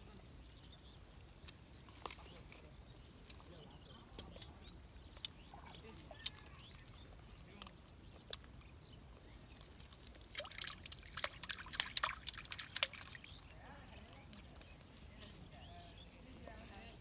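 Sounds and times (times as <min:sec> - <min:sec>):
fish splashing in water: 0:01.3 - 0:15.2.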